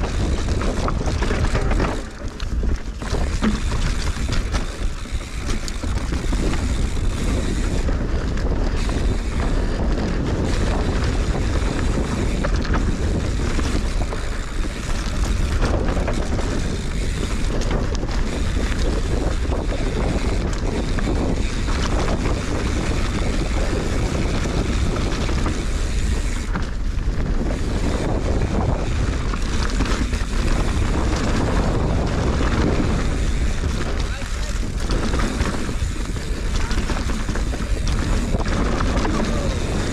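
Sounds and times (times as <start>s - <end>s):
bike rattling over rough trail: 0.0s - 39.9s
wind buffeting microphone: 0.0s - 39.9s.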